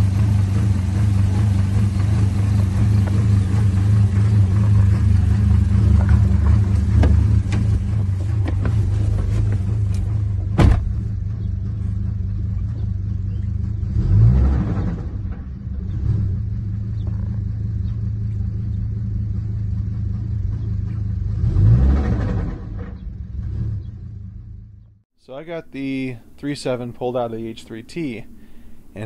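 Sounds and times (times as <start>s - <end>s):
engine revving: 0.0s - 24.9s.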